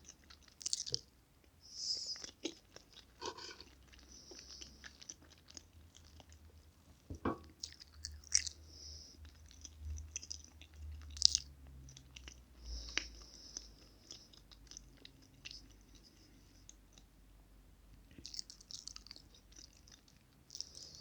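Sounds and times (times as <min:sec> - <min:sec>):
chewing soft cake: 0:00.0 - 0:21.0.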